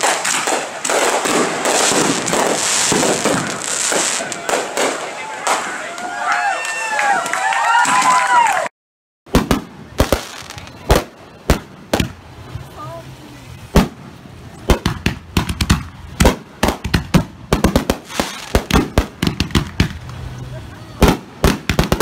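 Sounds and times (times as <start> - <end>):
fireworks bangs and crackling: 0.0 - 6.5, 9.3 - 22.0.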